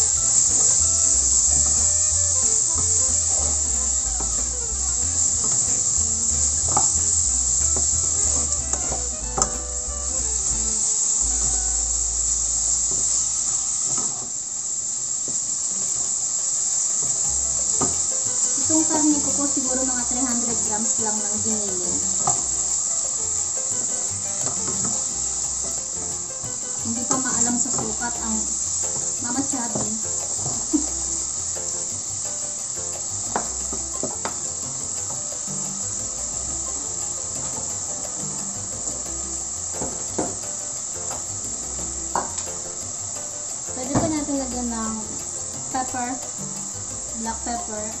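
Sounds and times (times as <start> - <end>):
soft background music: 0.0 - 14.0, 16.8 - 48.0
high-pitched hiss: 0.0 - 48.0
meat sizzling in a pan: 0.0 - 48.0.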